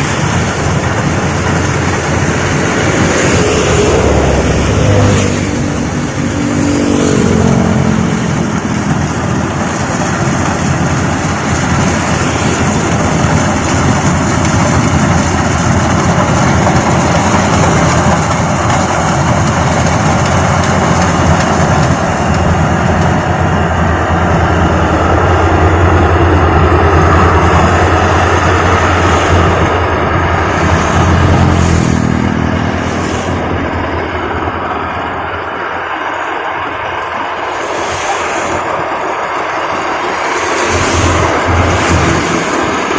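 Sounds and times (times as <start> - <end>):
combine harvester engine drone: 0.0 - 42.9
machinery noise: 0.0 - 42.9.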